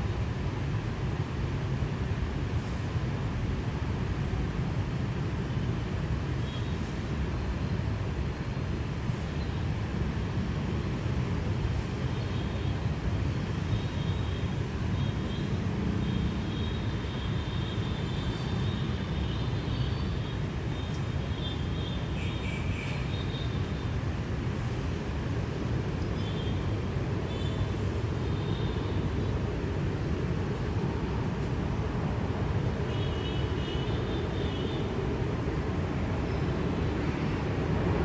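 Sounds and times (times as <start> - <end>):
faint high jet engine whine: 2.2 - 38.0.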